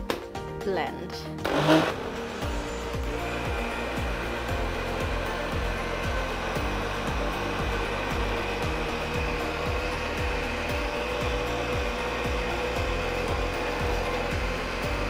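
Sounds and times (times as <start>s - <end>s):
blender motor whine: 1.4s - 15.0s.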